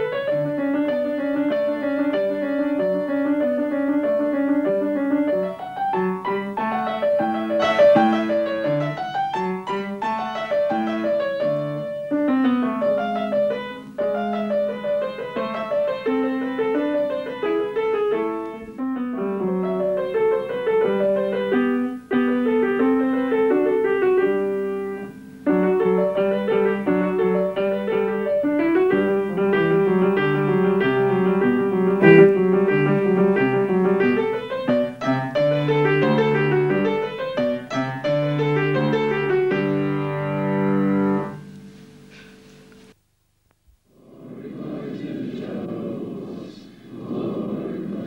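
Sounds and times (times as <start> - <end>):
solo piano playing: 0.0 - 43.0.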